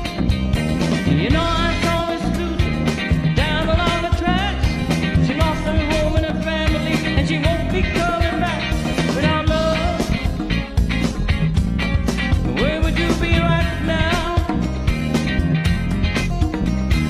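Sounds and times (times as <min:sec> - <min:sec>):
person singing karaoke: 0:00.0 - 0:15.9
rock backing track with drums: 0:00.0 - 0:17.0.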